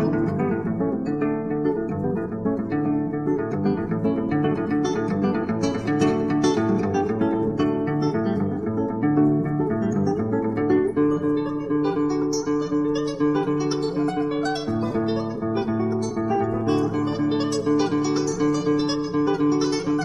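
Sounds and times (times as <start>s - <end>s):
solo classical guitar: 0.0s - 20.0s.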